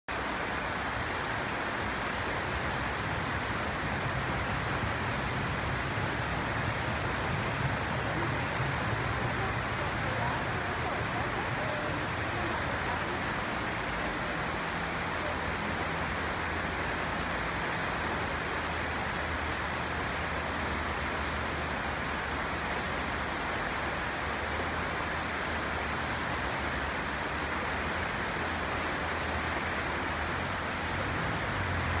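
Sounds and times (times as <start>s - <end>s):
floodwater rushing: 0.1s - 32.0s.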